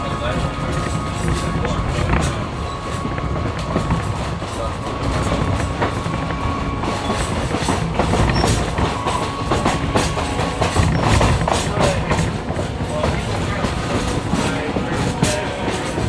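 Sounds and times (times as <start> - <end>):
rail joint clicks: 0.0 - 16.0
steel wheels rumbling on rail: 0.0 - 16.0.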